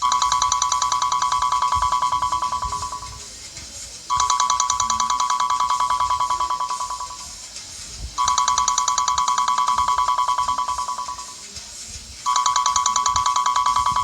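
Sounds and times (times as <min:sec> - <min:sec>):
trilling electronic ringtone: 0:00.0 - 0:03.4, 0:04.1 - 0:11.6, 0:12.2 - 0:14.0.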